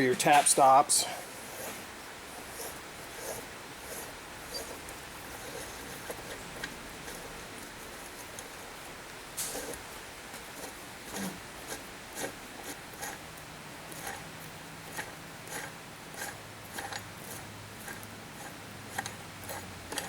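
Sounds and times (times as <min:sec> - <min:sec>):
metal tools clicking and scraping: 0:00.0 - 0:13.2, 0:14.9 - 0:20.0.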